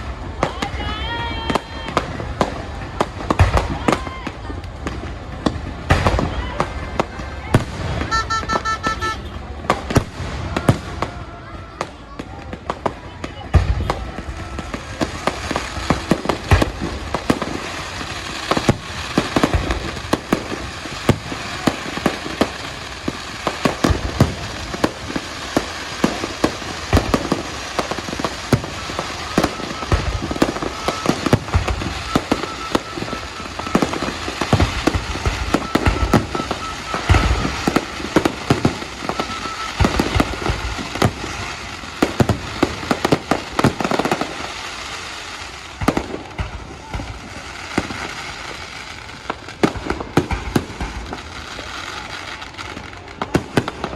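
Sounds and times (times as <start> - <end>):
firecrackers bangs and crackles: 0.0 - 53.9
fireworks low booms: 0.0 - 53.9.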